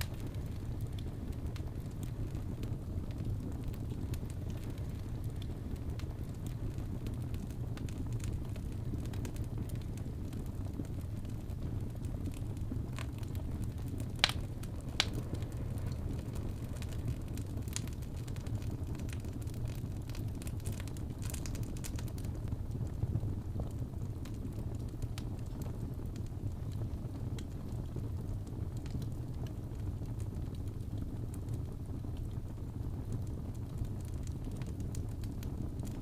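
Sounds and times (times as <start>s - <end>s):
fire crackling in a fireplace: 0.0s - 36.0s.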